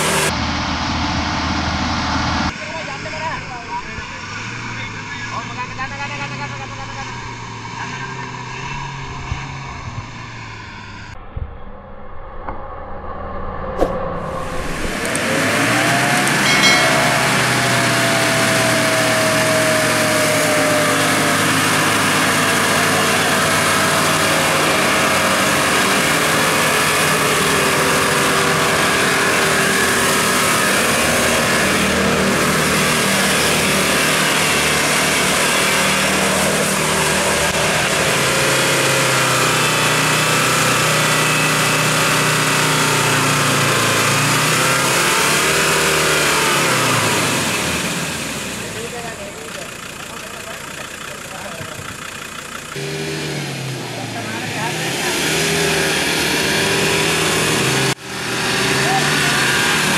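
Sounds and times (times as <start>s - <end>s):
off-road vehicle engine running: 0.0s - 11.2s, 13.8s - 59.9s.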